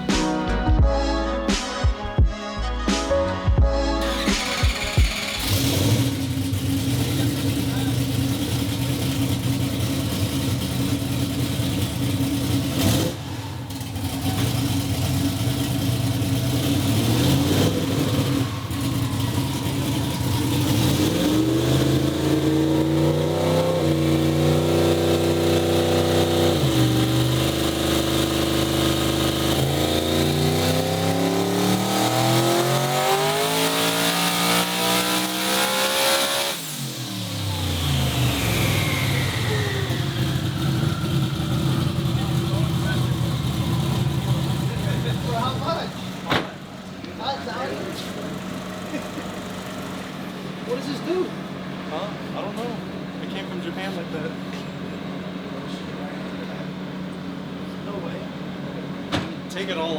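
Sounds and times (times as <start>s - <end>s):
car engine accelerating: 4.0s - 59.7s.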